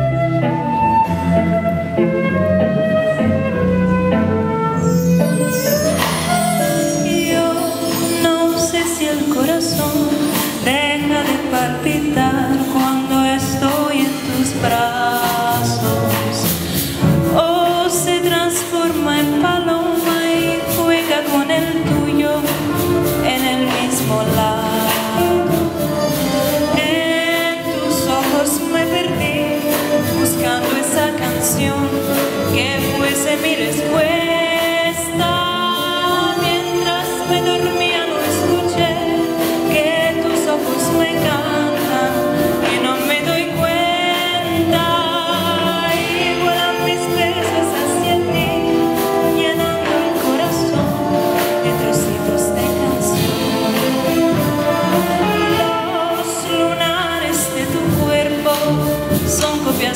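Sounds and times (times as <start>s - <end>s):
jazz big band playing: 0.0s - 59.9s
woman singing: 4.8s - 59.9s.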